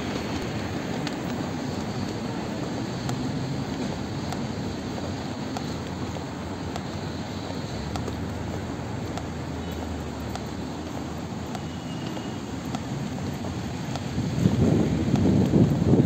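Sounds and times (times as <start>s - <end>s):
road traffic rumble: 0.0s - 16.0s
faint sharp ticks: 0.4s - 15.7s.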